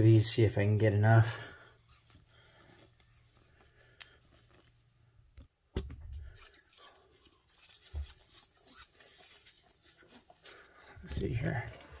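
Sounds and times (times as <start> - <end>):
tape rustling and peeling: 1.6 - 12.0.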